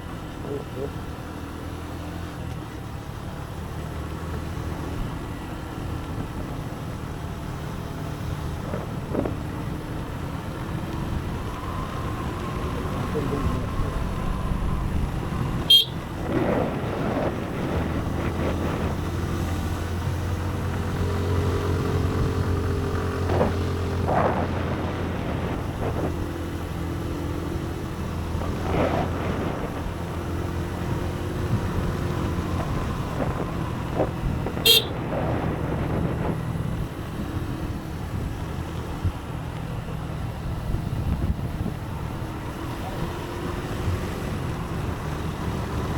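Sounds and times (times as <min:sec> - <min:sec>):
motorcycle engine running: 0:00.0 - 0:45.9
road and wind hiss: 0:00.0 - 0:45.9.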